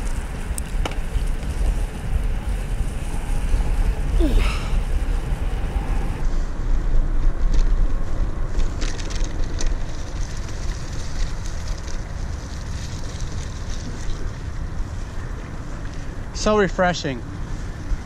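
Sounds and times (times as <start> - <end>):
wind buffeting microphone: 0.0 - 16.4
bicycle tyres rolling on trail: 0.0 - 18.0.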